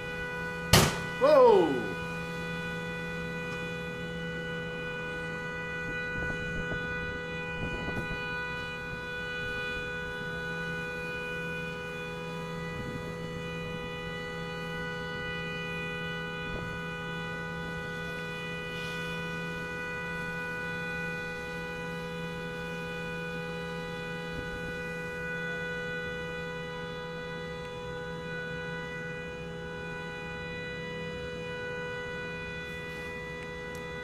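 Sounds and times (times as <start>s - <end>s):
car horn sounding continuously: 0.0s - 34.0s.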